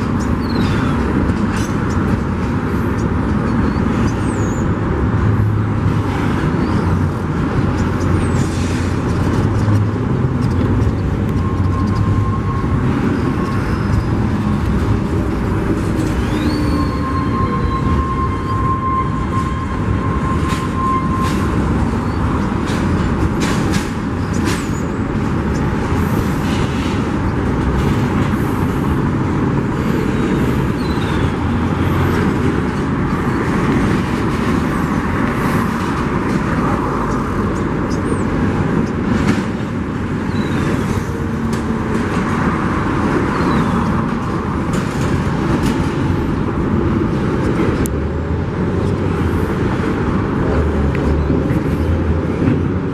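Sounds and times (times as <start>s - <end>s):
train cars clicking and clanking: 0.0s - 52.9s
train wheels rumbling on rail: 0.0s - 52.9s.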